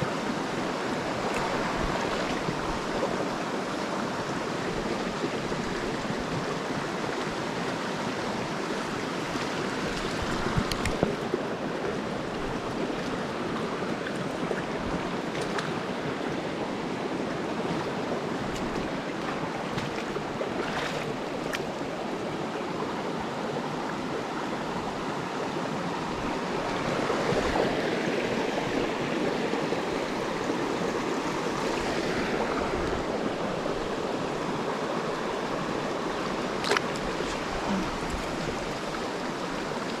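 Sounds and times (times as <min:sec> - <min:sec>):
stream running over rocks: 0:00.0 - 0:40.0.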